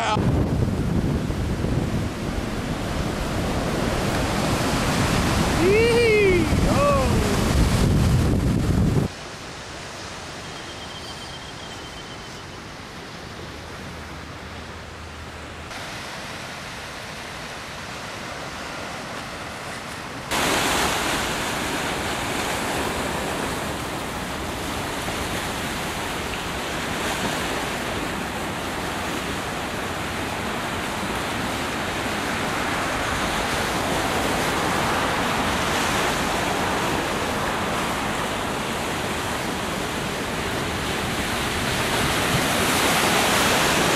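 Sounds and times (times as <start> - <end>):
breaking surf: 0.0 - 10.4, 15.7 - 43.9
wind: 0.0 - 43.9.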